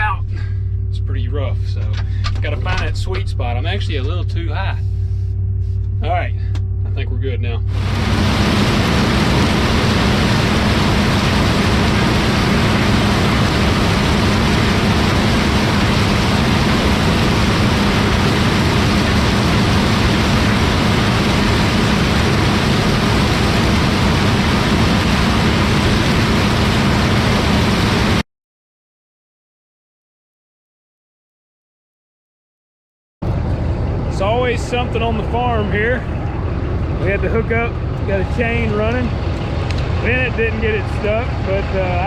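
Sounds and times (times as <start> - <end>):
combine harvester droning: 0.0 - 28.2, 33.2 - 42.0.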